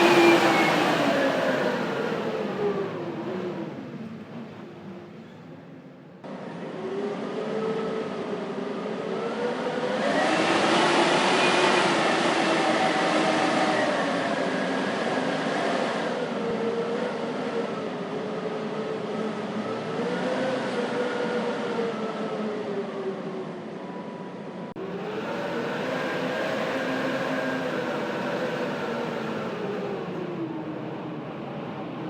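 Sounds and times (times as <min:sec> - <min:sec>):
howling blizzard wind: 0:00.0 - 0:32.0.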